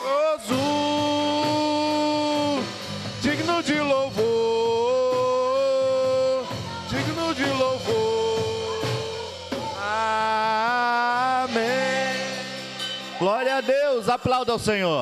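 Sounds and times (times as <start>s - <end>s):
person singing long notes: 0.0s - 12.8s
instrumental accompaniment: 0.0s - 14.8s.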